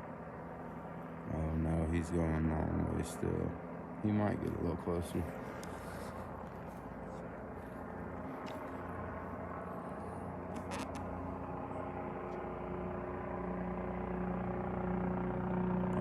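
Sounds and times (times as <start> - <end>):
distant helicopter drone: 0.0 - 16.0.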